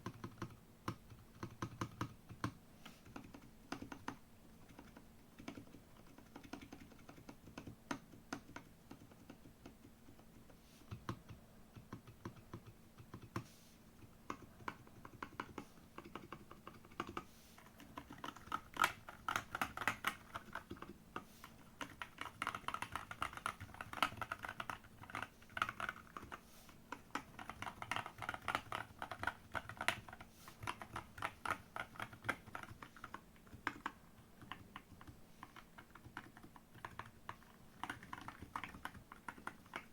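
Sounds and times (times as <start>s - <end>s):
typing on mechanical keyboard: 0.0s - 13.4s, 14.0s - 39.9s.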